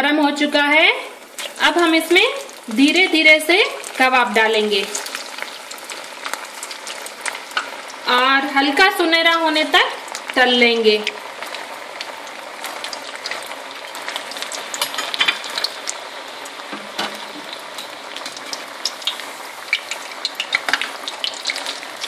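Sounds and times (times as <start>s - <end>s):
food sizzling in hot oil: 0.2s - 22.0s.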